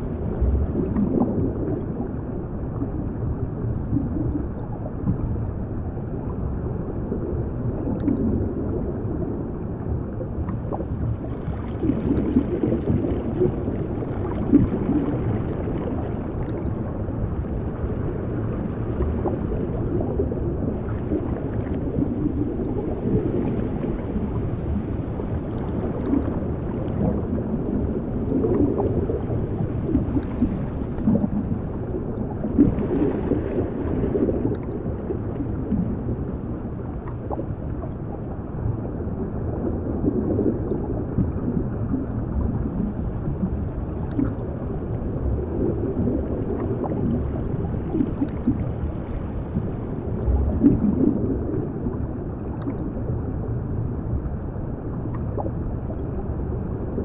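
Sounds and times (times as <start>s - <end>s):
muffled underwater wash: 0.0s - 57.0s
water bubbling and gurgling: 0.0s - 57.0s.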